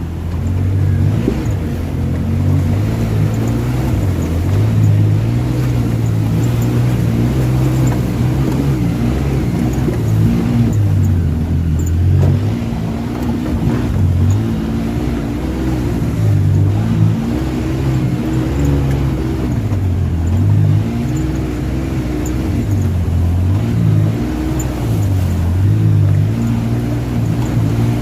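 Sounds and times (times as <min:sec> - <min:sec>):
engine revving: 0:00.0 - 0:28.0
water wash noise: 0:00.0 - 0:28.0.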